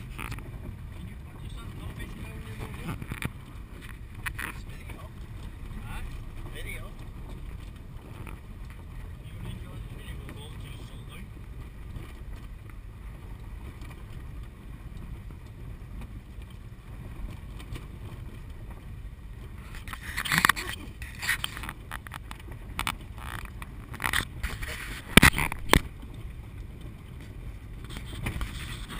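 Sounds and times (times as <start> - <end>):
engine and tyres rumbling: 0.0 - 28.9.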